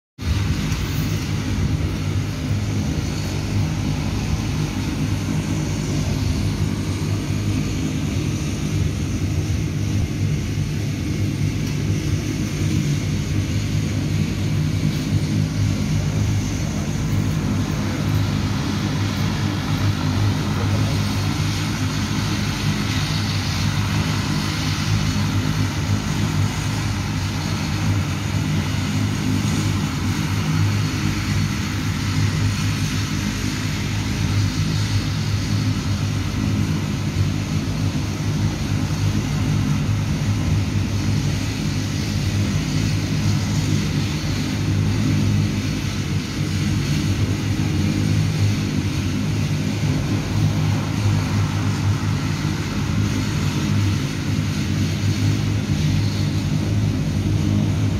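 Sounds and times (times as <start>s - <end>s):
turboprop engines droning: 0.2s - 57.9s.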